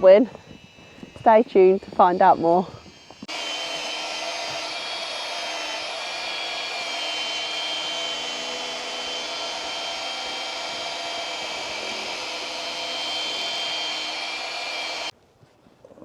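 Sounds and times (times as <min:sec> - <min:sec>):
electric power tool whine: 0:00.0 - 0:15.2.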